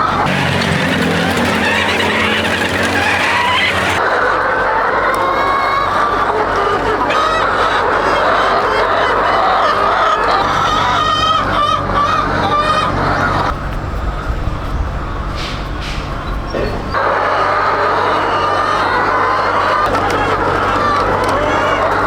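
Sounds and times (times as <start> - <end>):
poultry honking and clucking: 0.0 - 13.5, 16.6 - 22.0.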